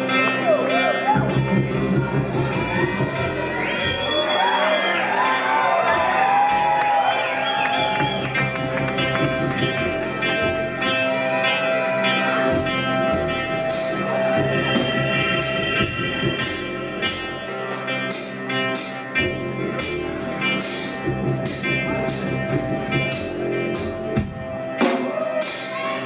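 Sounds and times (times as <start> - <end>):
drum kit steady beat: 0.0 - 4.6, 5.9 - 26.0
bass guitar notes: 0.0 - 26.0
sustained guitar notes: 0.0 - 26.0.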